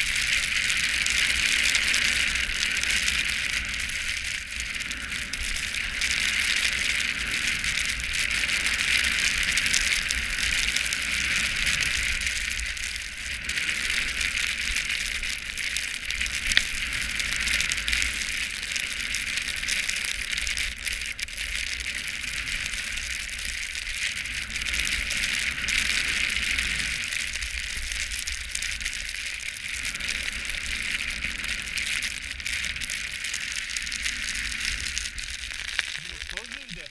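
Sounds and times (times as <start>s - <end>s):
skis sliding over packed snow: 0.0s - 36.9s.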